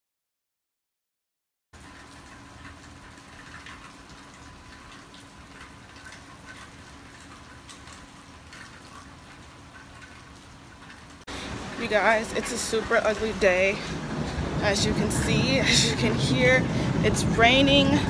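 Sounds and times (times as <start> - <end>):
drips and splashes: 1.8 - 18.0
steady hard rain: 1.8 - 18.0.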